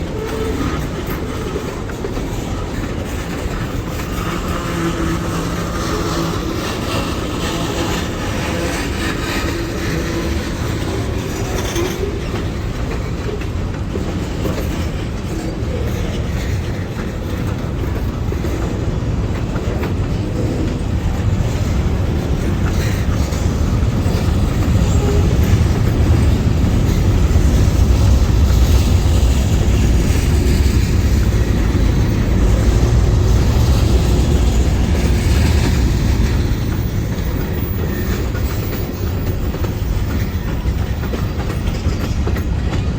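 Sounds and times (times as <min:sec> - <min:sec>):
freight train low rumble: 0:00.0 - 0:42.9
train wheels clacking on rail joints: 0:00.0 - 0:42.9.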